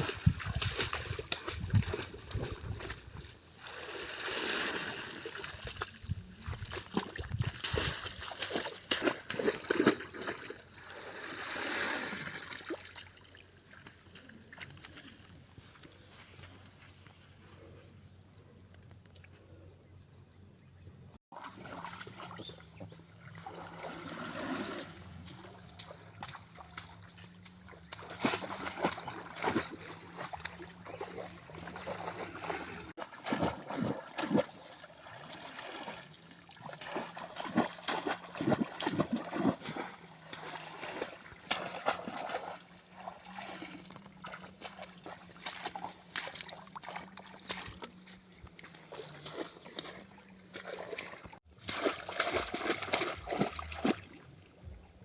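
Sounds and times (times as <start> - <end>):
river water splashing: 0.0 - 16.6, 21.3 - 55.0.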